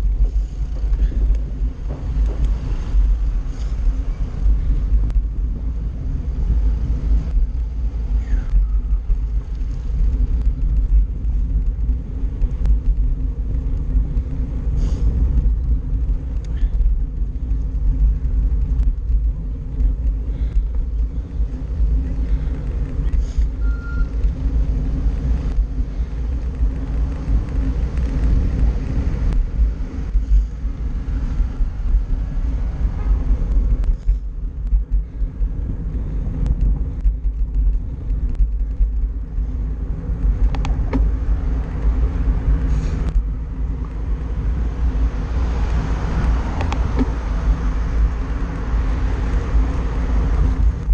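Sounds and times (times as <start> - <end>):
car traffic passing: 0.0 - 50.9
road noise: 0.0 - 50.9
wind buffeting microphone: 0.0 - 50.9.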